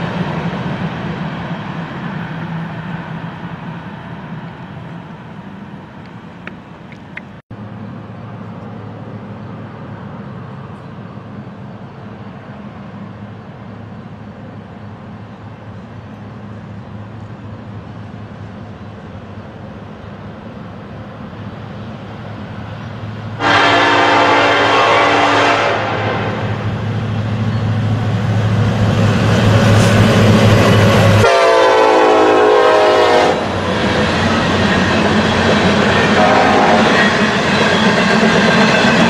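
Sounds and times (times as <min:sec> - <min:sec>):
freight train rumbling by: 0:00.0 - 0:39.0.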